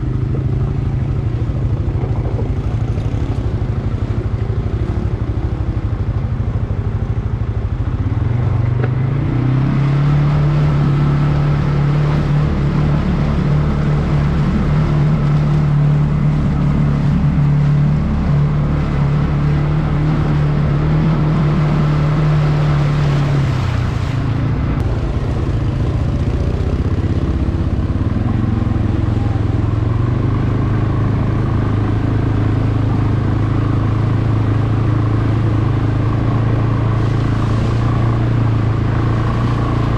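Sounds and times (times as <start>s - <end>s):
atv engine running under throttle: 0.0s - 39.9s.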